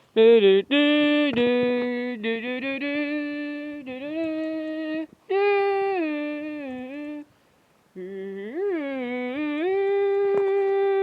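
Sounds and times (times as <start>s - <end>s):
person humming: 0.2s - 7.3s, 7.9s - 11.0s.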